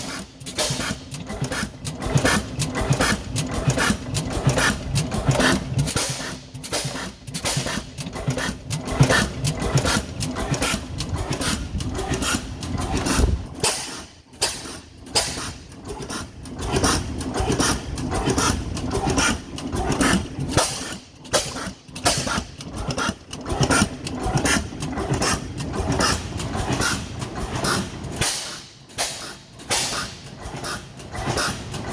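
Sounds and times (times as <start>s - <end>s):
engine knocks and clicks: 0.0s - 31.9s.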